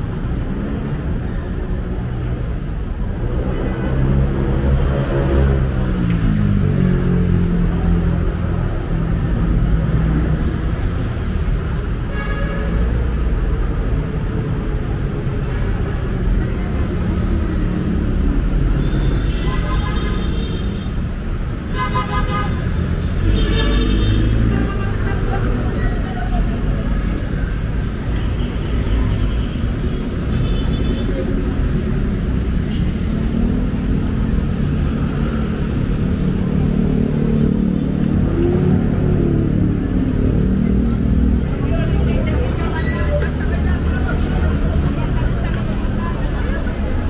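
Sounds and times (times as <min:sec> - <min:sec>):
traffic engine rumble: 0:00.0 - 0:47.0.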